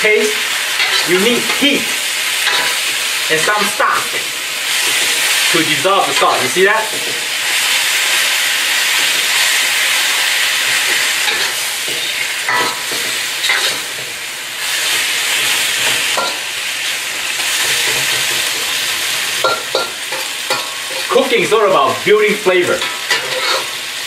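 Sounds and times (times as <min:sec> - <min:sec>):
stir-fry sizzling in a wok: 0:00.0 - 0:24.0
metal spatula scraping a wok: 0:00.2 - 0:21.5, 0:22.6 - 0:24.0.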